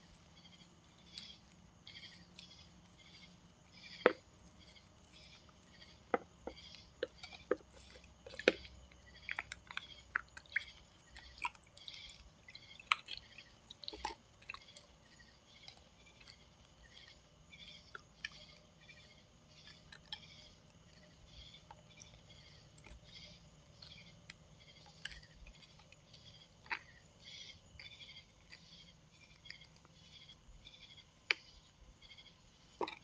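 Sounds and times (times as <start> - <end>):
faint high chirps: 0.0 - 33.0.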